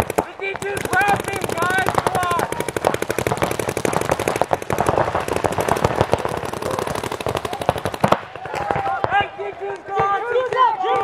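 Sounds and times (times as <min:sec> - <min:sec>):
paintball marker rapid fire: 0:00.0 - 0:09.3.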